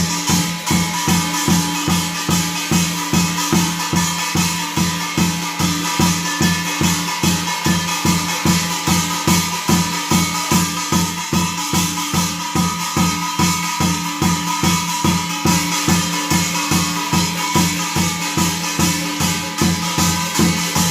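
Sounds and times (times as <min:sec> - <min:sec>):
drum beating fast rhythm: 0:00.0 - 0:20.9.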